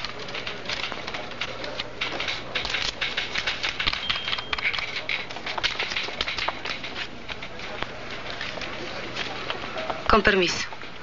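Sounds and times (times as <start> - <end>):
low background bustle: 0.0 - 11.0
rapid irregular clicking: 0.0 - 11.0.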